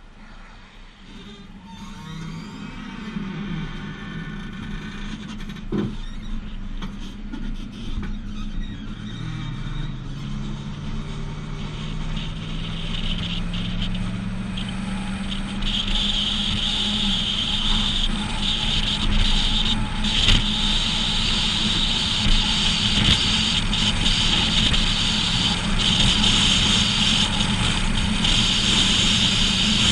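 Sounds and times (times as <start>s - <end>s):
road rumble: 0.0s - 29.9s
truck engine drone climbing in pitch: 0.0s - 29.9s.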